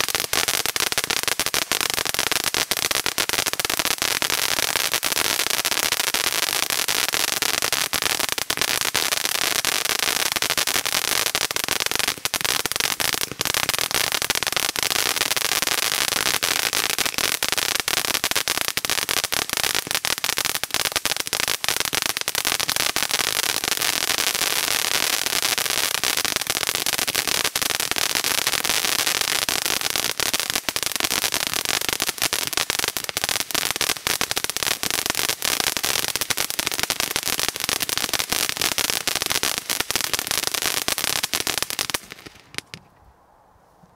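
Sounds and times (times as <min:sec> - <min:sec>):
firework crackling: 0:00.0 - 0:42.9.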